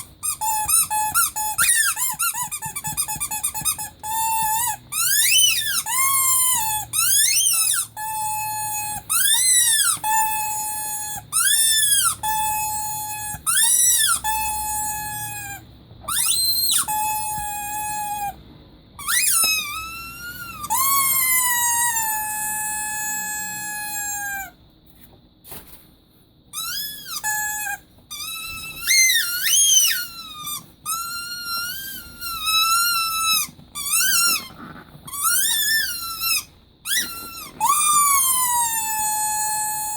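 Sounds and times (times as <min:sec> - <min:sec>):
rubber squeaky toy squeaking: 0:00.0 - 0:18.4, 0:19.0 - 0:24.6, 0:26.5 - 0:39.9.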